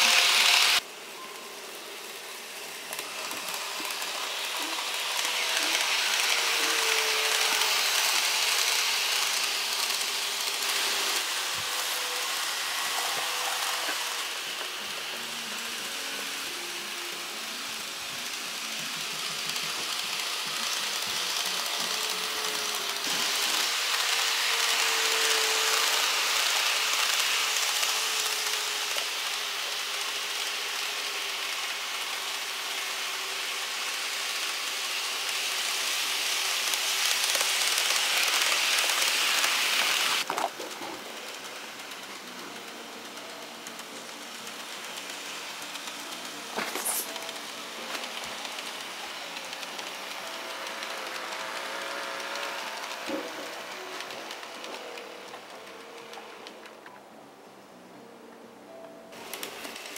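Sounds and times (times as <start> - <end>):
model train motor whirring: 0.0 - 56.9, 59.2 - 59.9
wheels rattling on rails: 1.7 - 57.0, 58.7 - 59.9.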